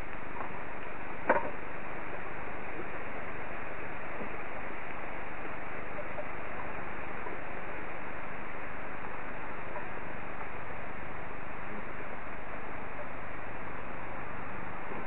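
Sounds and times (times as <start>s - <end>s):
pouring rain hiss: 0.0s - 15.0s.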